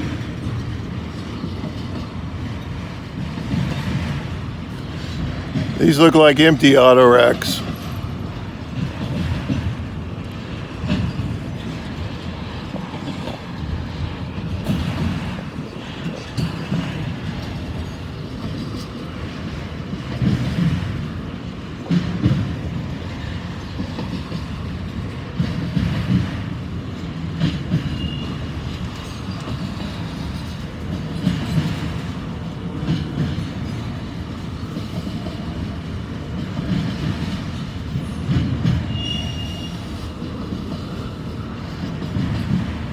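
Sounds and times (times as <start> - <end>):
freight train rumbling past: 0.0 - 42.9
wheels clacking over rail joints: 7.7 - 42.9.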